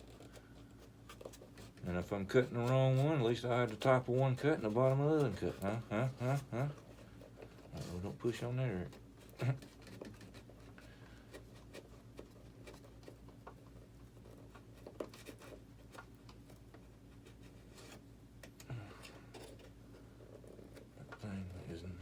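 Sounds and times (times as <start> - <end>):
light handling noises: 0.0 - 22.0
steady low hum: 0.0 - 22.0.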